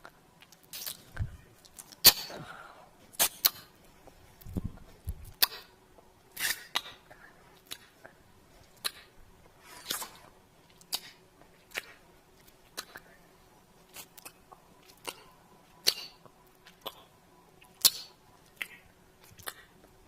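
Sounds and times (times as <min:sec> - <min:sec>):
lip smacks: 0:00.0 - 0:02.4, 0:03.1 - 0:03.7, 0:05.2 - 0:05.7, 0:06.4 - 0:13.2, 0:13.9 - 0:20.0.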